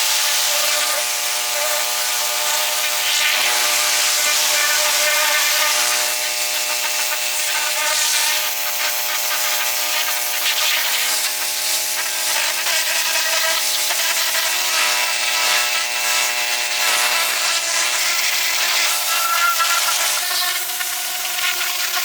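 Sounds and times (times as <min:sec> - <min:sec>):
power tool running: 0:00.0 - 0:22.0
tool hissing against material: 0:00.0 - 0:22.0.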